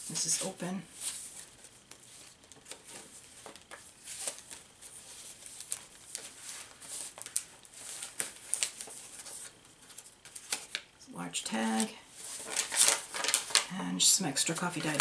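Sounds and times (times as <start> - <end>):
paper rustling and crinkling: 0.0 - 10.9, 11.6 - 13.7, 14.4 - 15.0.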